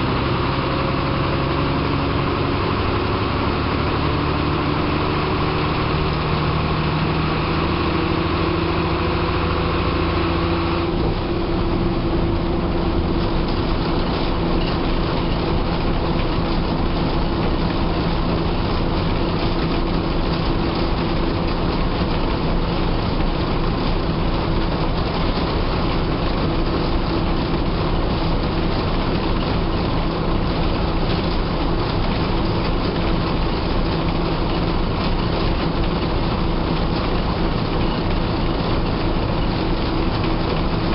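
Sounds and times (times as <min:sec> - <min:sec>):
bus diesel engine running: 0:00.0 - 0:40.9
road and body noise: 0:05.8 - 0:40.9.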